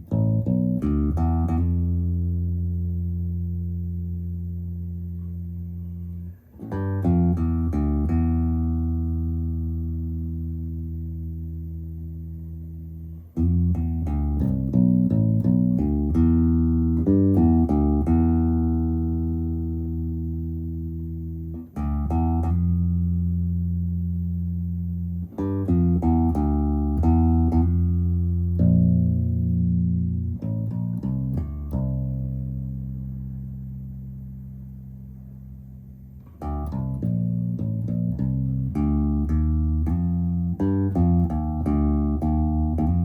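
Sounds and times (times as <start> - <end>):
electric bass plucked notes: 0.0 - 43.0.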